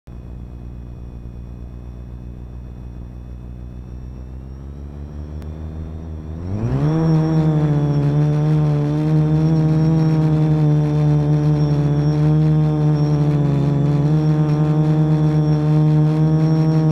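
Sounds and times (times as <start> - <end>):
quadcopter motors whining: 0.2 - 16.9.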